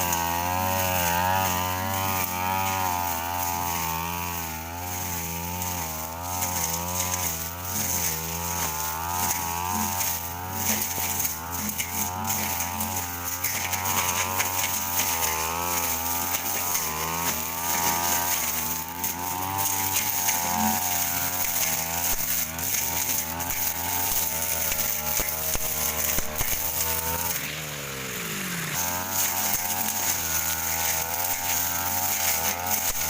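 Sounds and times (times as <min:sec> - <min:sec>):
brush cutter engine at high revs: 0:00.0 - 0:33.0.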